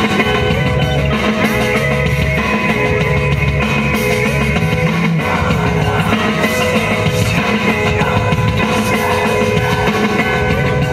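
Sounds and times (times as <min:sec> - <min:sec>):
drums: 0:00.0 - 0:10.9
loud rock music: 0:00.0 - 0:10.9.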